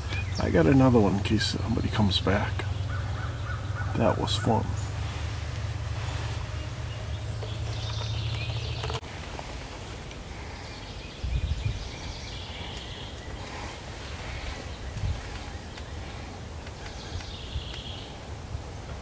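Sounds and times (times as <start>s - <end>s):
small birds chirping faintly: 0.0s - 19.0s
steady low rumble: 0.0s - 19.0s.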